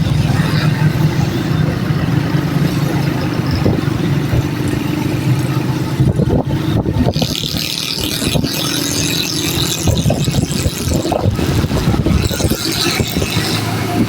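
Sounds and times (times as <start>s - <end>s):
road and traffic noise: 0.0s - 14.0s
vehicle engine running: 0.0s - 14.0s.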